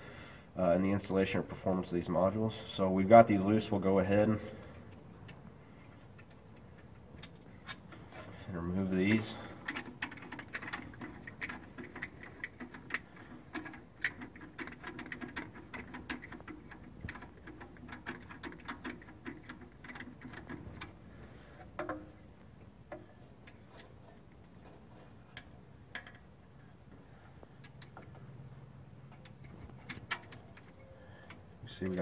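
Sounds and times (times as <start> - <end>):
metallic ticks of nuts and bolts: 4.7 - 8.1, 9.0 - 26.8, 27.4 - 32.0.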